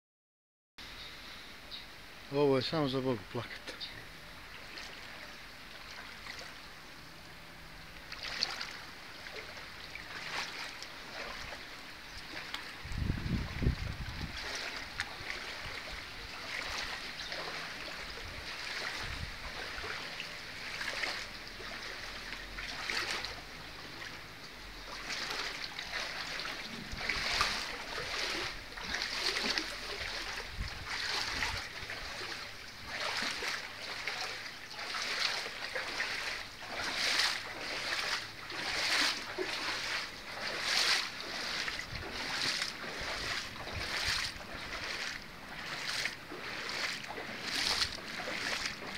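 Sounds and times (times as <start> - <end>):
footsteps splashing through water: 4.5 - 6.7, 7.9 - 48.9.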